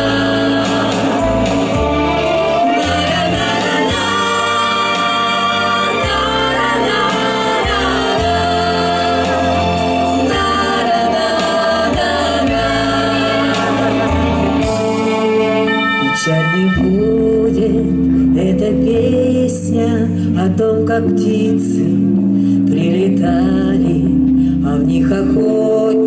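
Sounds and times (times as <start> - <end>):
women's vocal group singing in harmony: 0.0 - 22.1
instrumental accompaniment with bass: 0.0 - 26.0.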